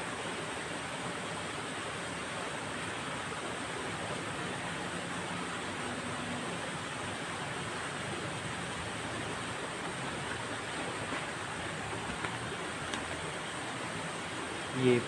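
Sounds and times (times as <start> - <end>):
night ambience rushing noise: 0.0 - 15.0.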